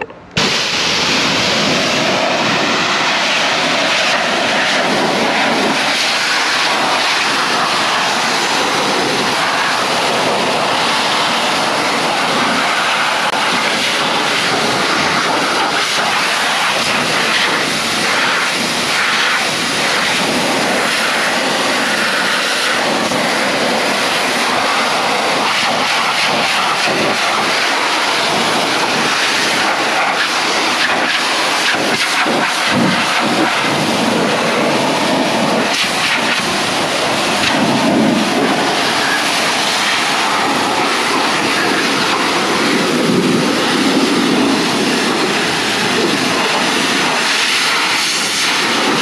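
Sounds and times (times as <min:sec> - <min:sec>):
pressure washer spraying water: 0:00.0 - 0:49.0.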